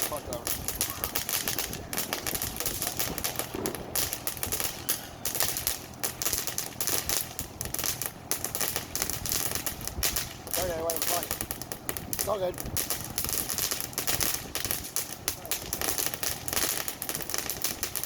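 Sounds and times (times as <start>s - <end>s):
firework crackling: 0.0s - 18.0s.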